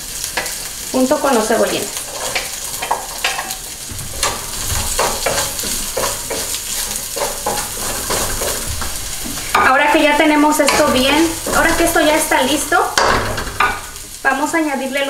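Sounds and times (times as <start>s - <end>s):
aromatics sizzling in hot oil: 0.0s - 15.0s
wooden spatula scraping a wok: 1.6s - 14.2s.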